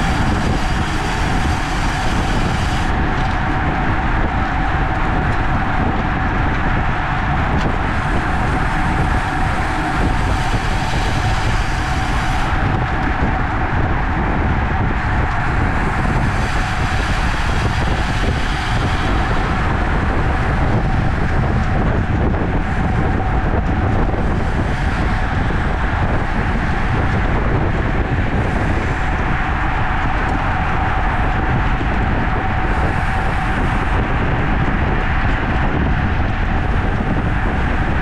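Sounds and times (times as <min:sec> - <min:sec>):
bicycle tyre road noise: 0:00.0 - 0:38.0
wind buffeting microphone: 0:00.0 - 0:38.0.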